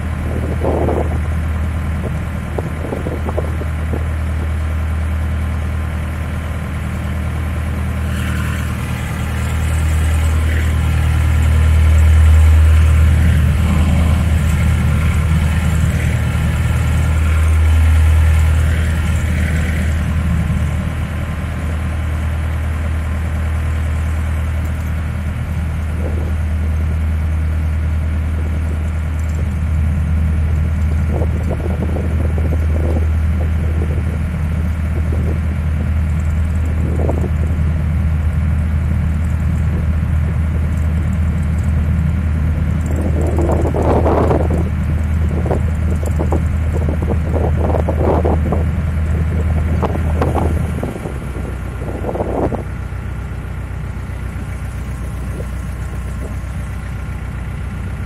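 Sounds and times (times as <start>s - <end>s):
boat diesel engine droning: 0.0s - 58.0s.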